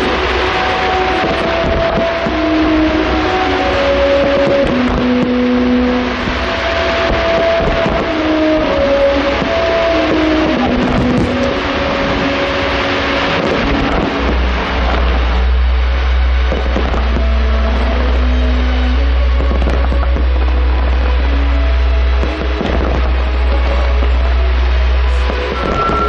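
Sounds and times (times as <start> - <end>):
fireworks bursting and crackling: 0.0 - 26.0
music over loudspeakers: 0.0 - 26.0.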